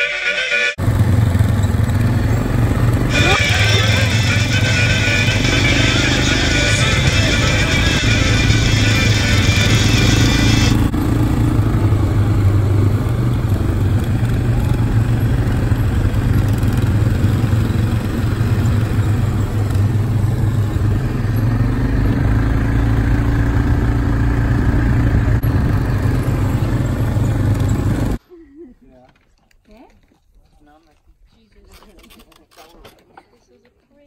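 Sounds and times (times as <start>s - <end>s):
quad bike engine running: 0.8s - 28.2s.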